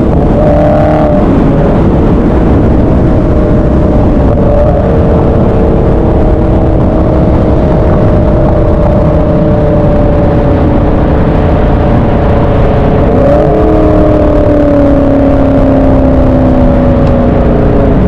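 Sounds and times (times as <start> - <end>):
car engine rumbling and revving: 0.0 - 18.0.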